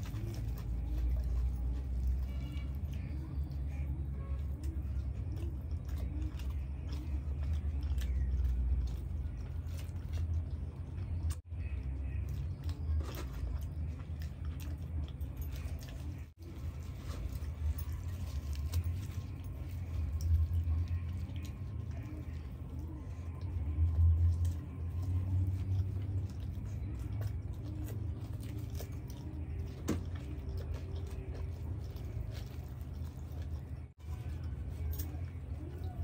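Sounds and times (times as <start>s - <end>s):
chewing and lip-smacking: 0.0s - 36.0s.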